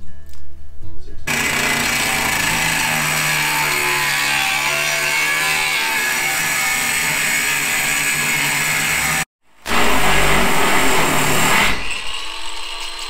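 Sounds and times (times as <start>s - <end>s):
angle grinder cutting metal: 1.3s - 13.0s.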